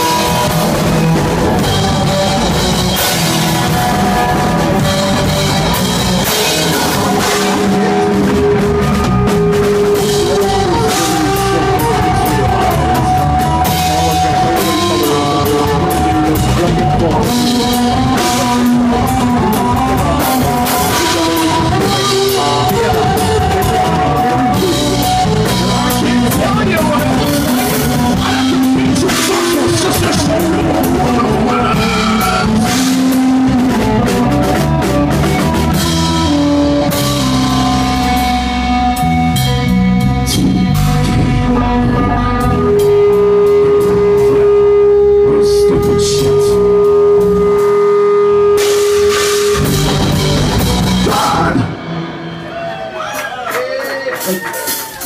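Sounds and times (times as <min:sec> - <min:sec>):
drum kit: 0:00.0 - 0:55.0
electric guitar: 0:00.0 - 0:55.0
rock band playing: 0:00.0 - 0:55.0.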